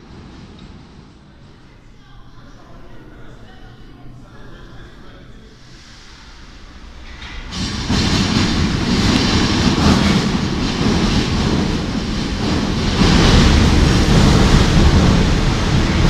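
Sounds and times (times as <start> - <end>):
metro train wheels rumbling on rails: 0.0 - 2.5, 5.5 - 16.0.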